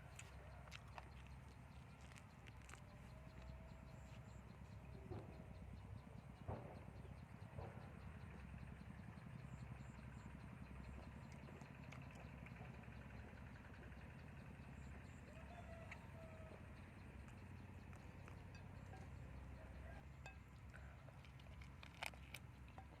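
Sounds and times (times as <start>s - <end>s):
faint motor hum: 0.0s - 23.0s.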